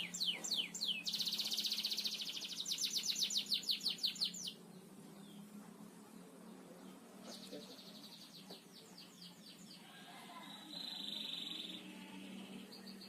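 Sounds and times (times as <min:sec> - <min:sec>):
canary singing: 0:00.0 - 0:05.5, 0:07.3 - 0:13.0.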